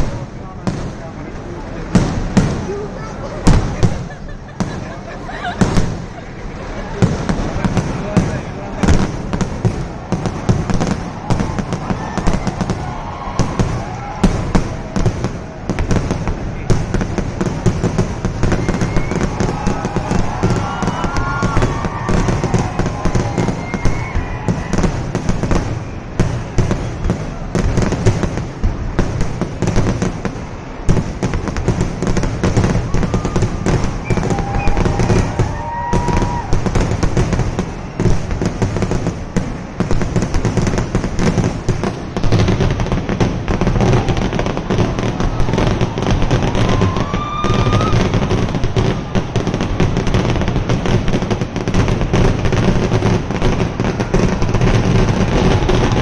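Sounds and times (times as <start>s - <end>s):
fireworks barrage: 0.0s - 56.0s.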